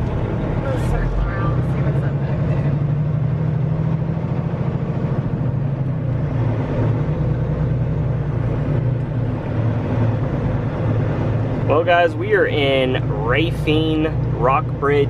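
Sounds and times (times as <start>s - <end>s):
diesel truck engine droning: 0.0s - 15.0s.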